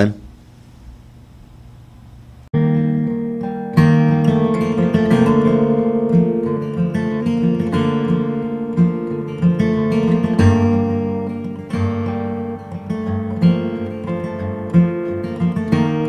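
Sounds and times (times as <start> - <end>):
acoustic guitar strumming chords: 2.6 - 16.0.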